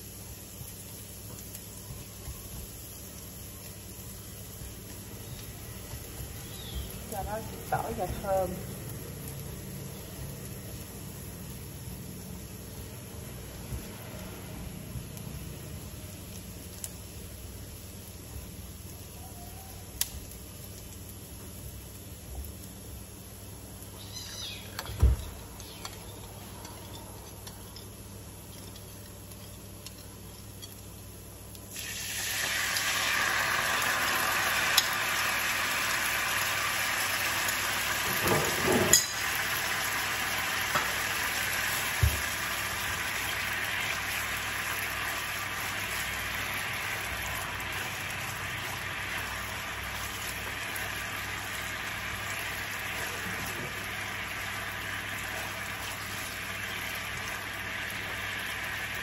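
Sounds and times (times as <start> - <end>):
garlic frying in pan: 0.0 - 59.0
glaze sizzling and bubbling: 0.0 - 59.0.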